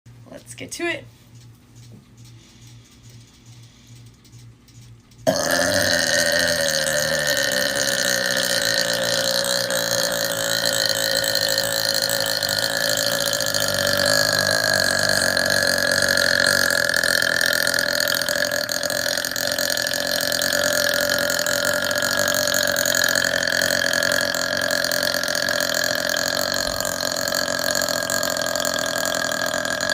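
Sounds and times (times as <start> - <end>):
woman burping: 5.3 - 29.9.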